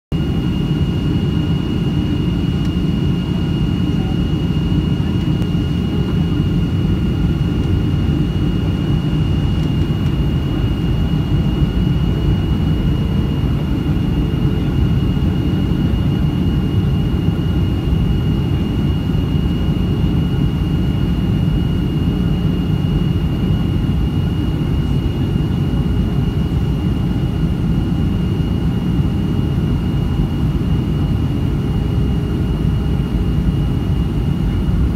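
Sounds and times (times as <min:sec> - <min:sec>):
jet engines and airflow rumble: 0:00.1 - 0:34.9
thin steady whine: 0:00.2 - 0:34.9.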